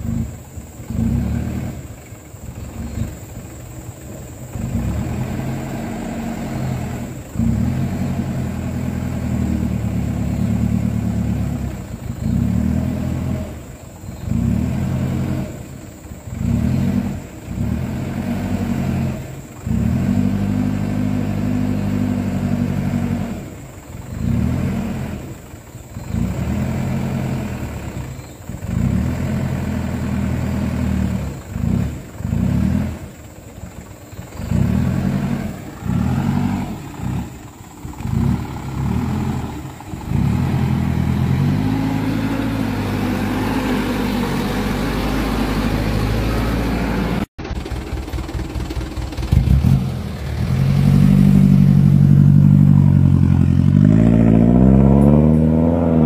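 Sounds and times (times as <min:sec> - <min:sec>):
diesel truck engine labouring: 0:00.0 - 0:56.0.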